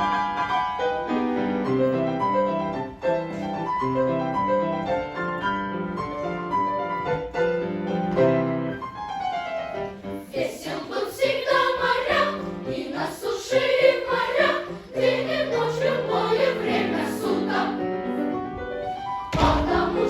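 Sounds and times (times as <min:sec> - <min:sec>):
piano tune: 0:00.0 - 0:10.3, 0:11.5 - 0:20.0.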